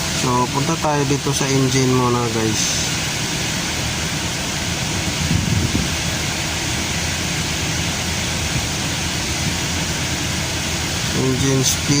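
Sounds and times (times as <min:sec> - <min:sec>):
car engine idling: 0:00.0 - 0:12.0
rushing hiss: 0:00.8 - 0:12.0.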